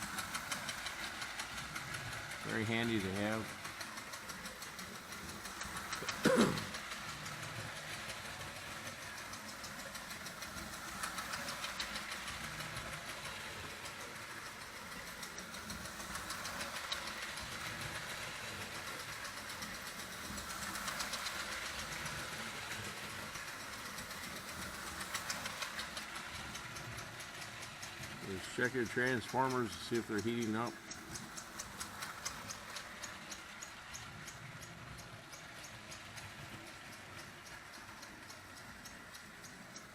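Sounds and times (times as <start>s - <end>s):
toy train motor and chugging: 0.0s - 39.9s.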